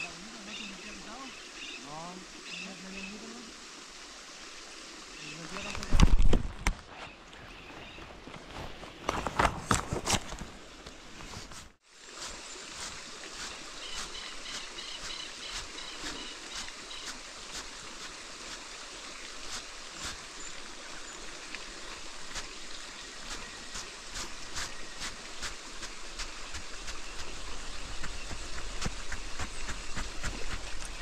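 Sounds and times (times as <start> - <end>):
river water running: 0.0 - 31.0.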